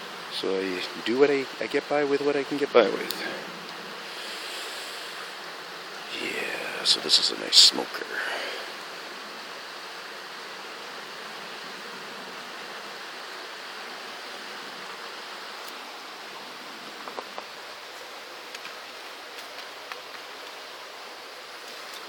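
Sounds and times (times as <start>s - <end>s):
creek running: 0.0s - 22.0s
wood fire crackling: 0.3s - 11.1s, 12.4s - 22.0s.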